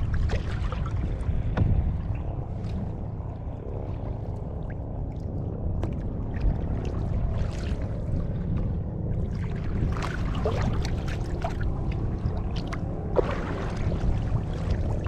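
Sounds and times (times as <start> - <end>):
water splashing around canoe: 0.0 - 15.0
wind rumble on microphone: 0.0 - 15.0.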